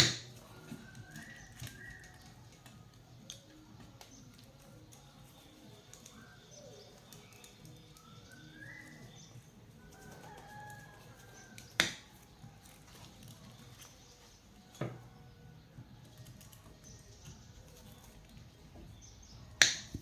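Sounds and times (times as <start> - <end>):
faint bird calls: 0.0 - 20.0.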